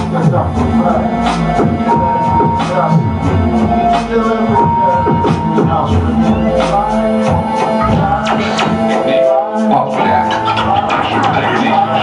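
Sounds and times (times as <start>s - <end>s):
loud electronic music: 0.0s - 12.0s.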